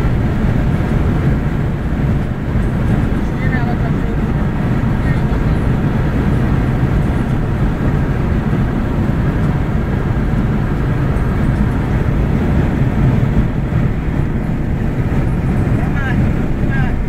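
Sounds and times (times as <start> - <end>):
car cabin tyre and engine rumble: 0.0 - 17.0.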